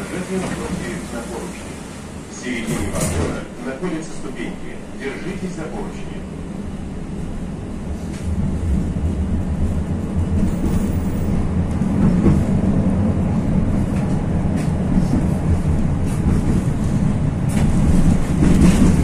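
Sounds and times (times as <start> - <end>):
tram wheels rumbling: 0.0 - 19.0.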